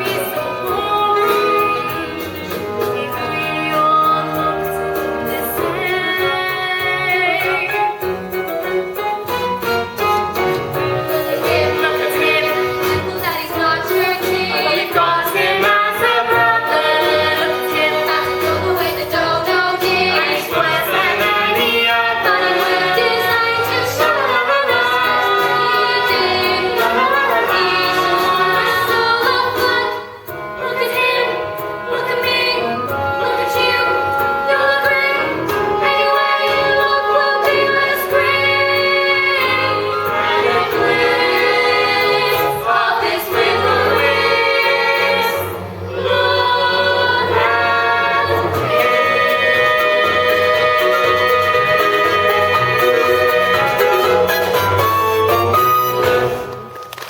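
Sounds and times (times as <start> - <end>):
instrumental accompaniment: 0.0 - 57.0.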